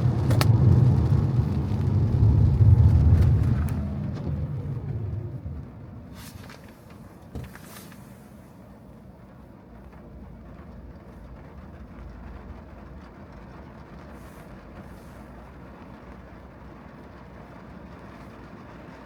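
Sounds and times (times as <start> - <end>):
car driving on wet road: 0.0 - 19.0.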